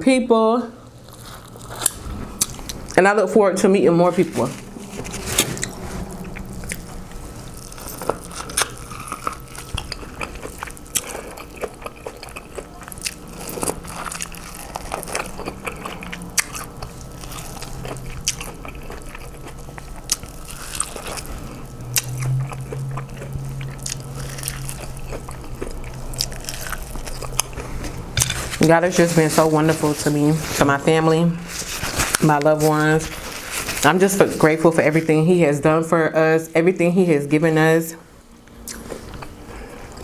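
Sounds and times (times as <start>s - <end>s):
person chewing and crunching: 0.8s - 3.0s, 4.2s - 34.9s, 38.5s - 40.0s.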